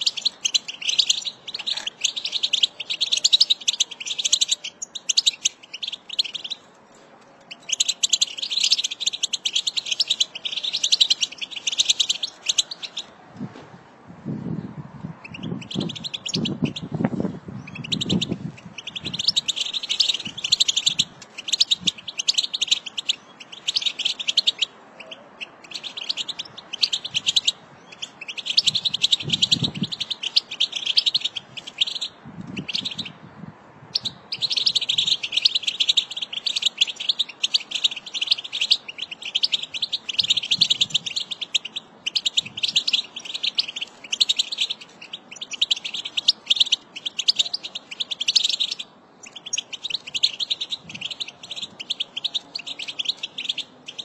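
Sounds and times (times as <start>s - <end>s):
goldfinch twittering song: 0.0s - 6.6s, 7.5s - 13.1s, 15.2s - 16.9s, 17.6s - 33.2s, 33.9s - 54.0s.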